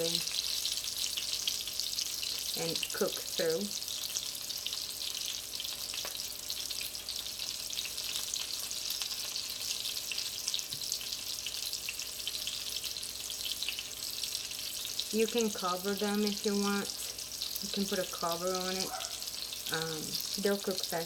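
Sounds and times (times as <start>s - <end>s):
chicken frying in oil: 0.0s - 21.0s.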